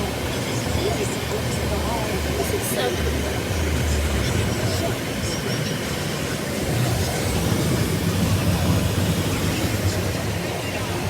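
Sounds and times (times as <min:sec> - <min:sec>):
car wash spraying and machinery: 0:00.0 - 0:11.0.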